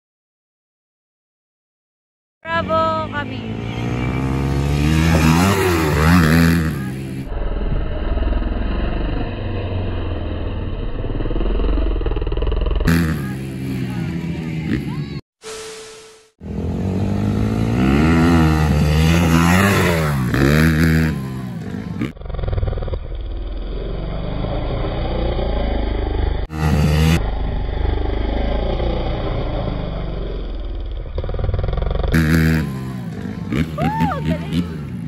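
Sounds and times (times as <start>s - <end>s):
dirt bike engine revving: 2.5s - 15.2s, 16.2s - 35.0s.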